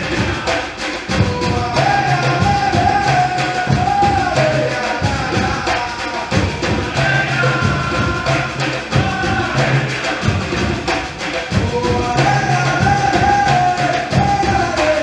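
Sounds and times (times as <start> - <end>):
hand drums playing rhythm: 0.0 - 15.0
person singing: 0.0 - 15.0.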